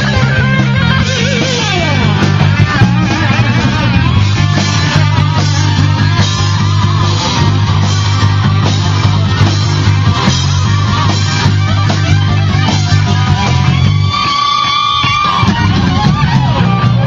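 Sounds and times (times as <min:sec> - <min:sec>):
drum kit with cymbals: 0:00.0 - 0:17.0
electric bass: 0:00.0 - 0:17.0
electric guitar: 0:00.0 - 0:17.0.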